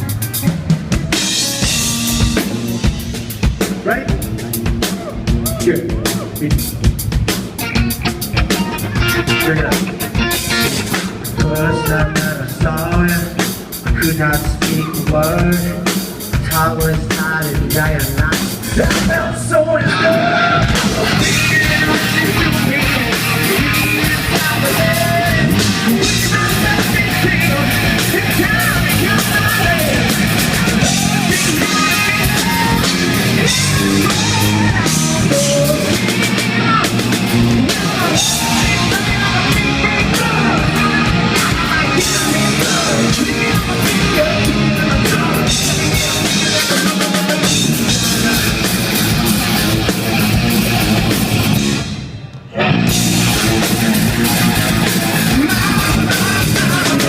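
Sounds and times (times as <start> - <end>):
hard rock band playing live: 0.0 - 57.0.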